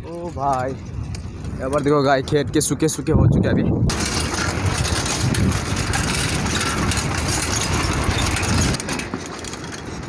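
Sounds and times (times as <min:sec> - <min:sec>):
bicycle rattling on road: 0:00.0 - 0:10.0
wind rumbling on microphone: 0:00.0 - 0:10.0.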